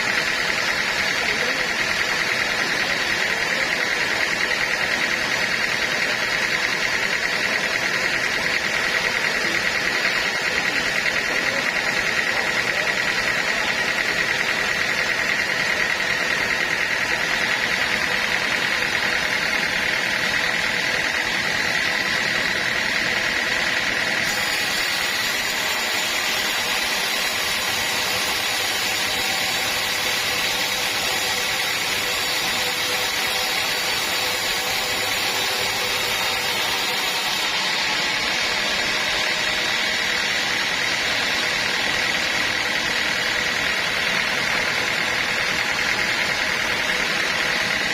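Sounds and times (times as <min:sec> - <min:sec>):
high mechanical tone: 0:00.0 - 0:47.9
sawmill machinery running: 0:00.0 - 0:47.9.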